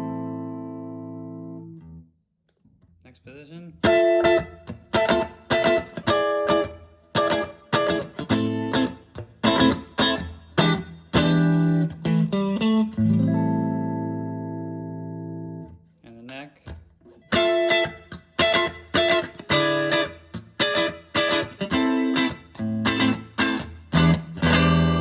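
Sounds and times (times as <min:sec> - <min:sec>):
clean electric guitar strumming: 0:00.0 - 0:02.0, 0:03.8 - 0:15.8, 0:17.1 - 0:25.0.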